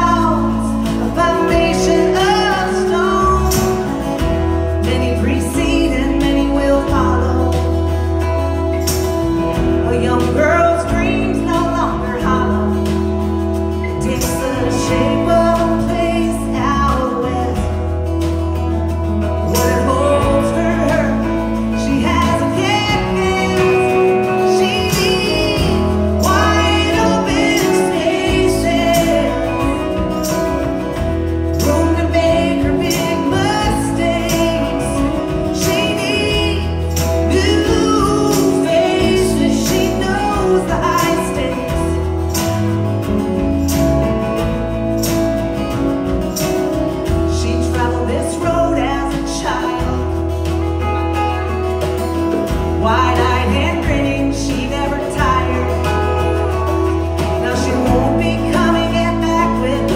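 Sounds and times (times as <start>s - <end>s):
woman singing lead vocal: 0.0s - 42.5s, 47.1s - 50.6s, 52.6s - 59.9s
drums: 0.0s - 59.9s
electric bass line: 0.0s - 59.9s
electric guitars: 0.0s - 59.9s.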